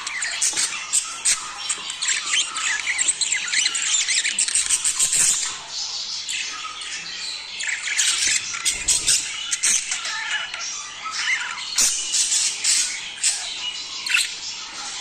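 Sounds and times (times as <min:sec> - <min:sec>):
budgerigars chattering and chirping: 0:00.0 - 0:15.0.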